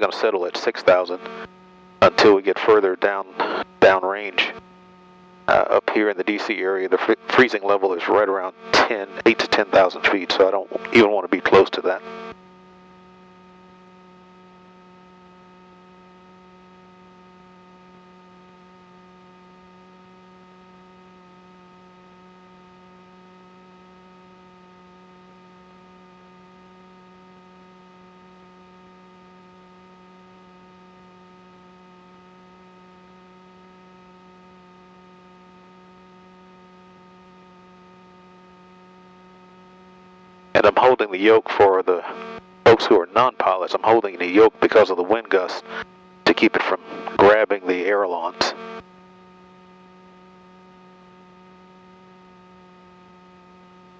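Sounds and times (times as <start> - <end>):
electrical hum and buzz: 0.0 - 53.9.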